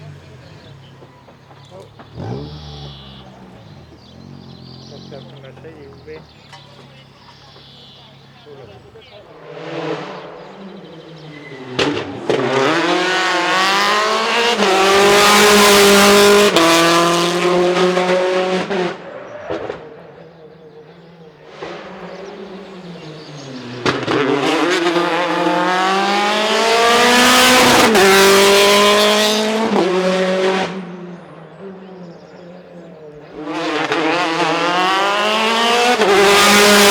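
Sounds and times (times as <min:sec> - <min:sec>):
rally cars passing at full throttle: 0:00.0 - 0:36.9.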